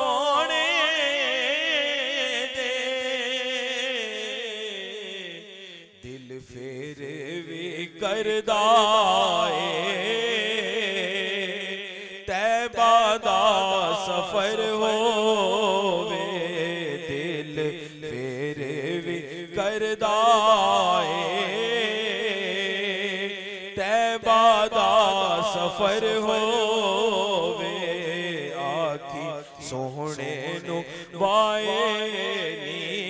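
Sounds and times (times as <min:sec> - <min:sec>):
man singing: 0:00.0 - 0:33.0.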